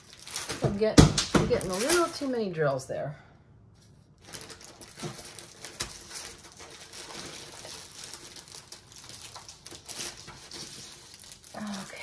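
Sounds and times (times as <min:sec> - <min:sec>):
plastic bags rustling and clicking: 0:00.0 - 0:02.5, 0:03.8 - 0:12.0.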